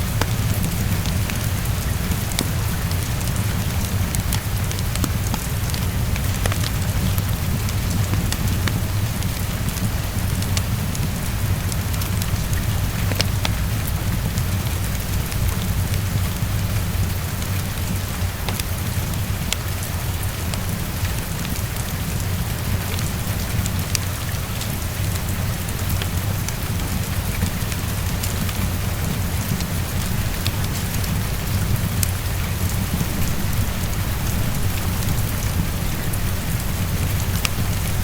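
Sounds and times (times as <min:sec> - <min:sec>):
heavy rain on a window: 0:00.0 - 0:38.0.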